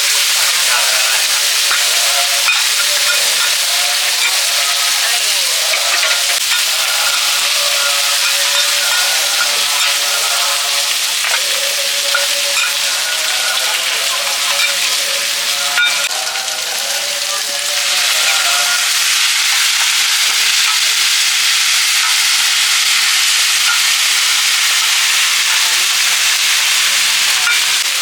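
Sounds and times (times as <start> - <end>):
omelette sizzling in hot oil: 0.0 - 28.0.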